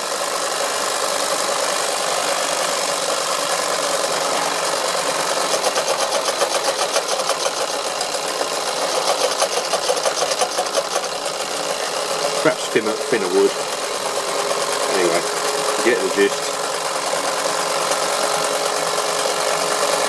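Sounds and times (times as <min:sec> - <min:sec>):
toy steam engine whirring: 0:00.0 - 0:20.0
model saw chattering through wood: 0:01.4 - 0:20.0.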